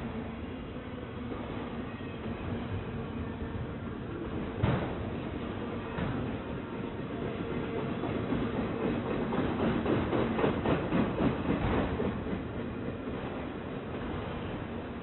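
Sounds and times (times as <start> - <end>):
train wheels on rails: 1.2 - 15.0.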